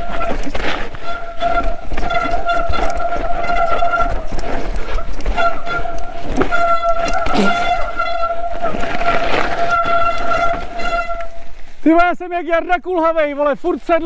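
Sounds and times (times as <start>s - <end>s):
bike disc brakes squealing: 0.0s - 11.6s
tyres rumbling on trail: 0.0s - 14.0s.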